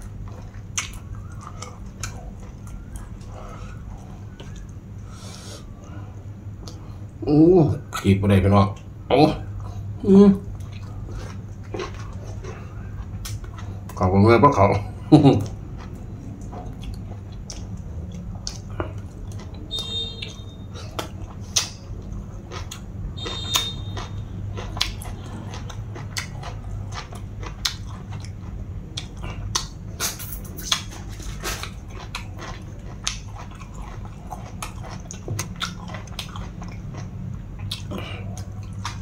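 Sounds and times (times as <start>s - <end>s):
mouth clicks and chewing: 0.0s - 5.0s, 10.4s - 14.0s, 15.4s - 39.0s
steady low hum: 0.0s - 39.0s.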